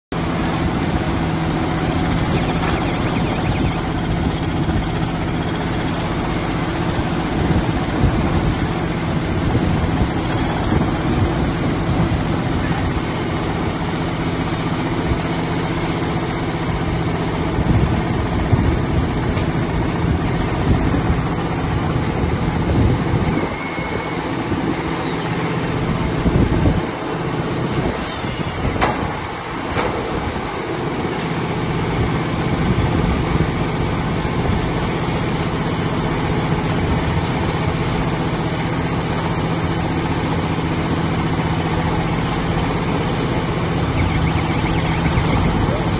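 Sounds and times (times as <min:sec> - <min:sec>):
baler machine motor hum: 0:00.2 - 0:28.6, 0:30.3 - 0:45.9.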